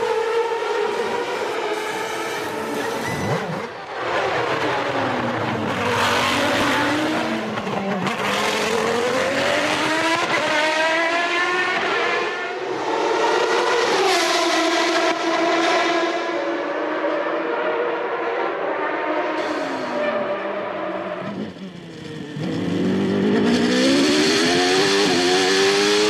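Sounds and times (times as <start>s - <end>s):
racing car engine high revs: 0.0s - 26.0s.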